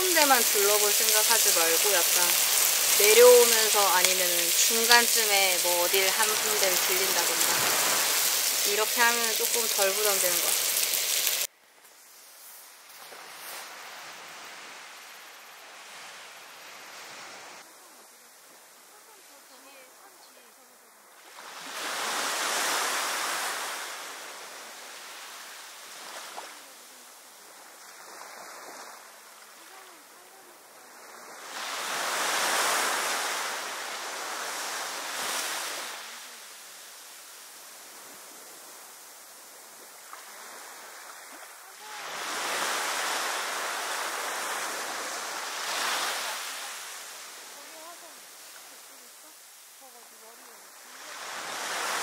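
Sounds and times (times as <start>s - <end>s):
sea wave breaking on shore: 0.0s - 11.5s, 21.2s - 52.0s.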